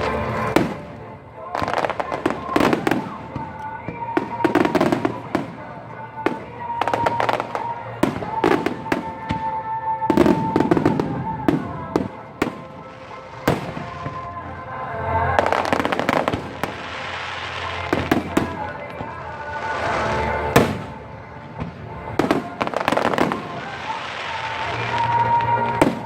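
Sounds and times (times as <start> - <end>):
fireworks bursting with bangs: 0.0 - 26.0
fireworks crackling: 0.0 - 26.0
music over loudspeakers: 0.0 - 26.0.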